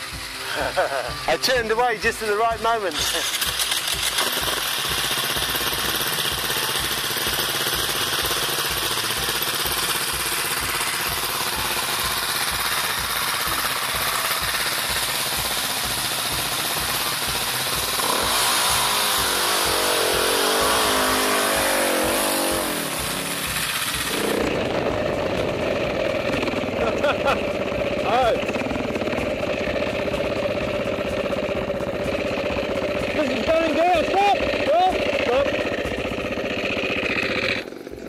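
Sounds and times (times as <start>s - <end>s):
dirt bike engine revving: 0.0s - 38.0s
dirt bike engines puttering: 0.0s - 38.0s.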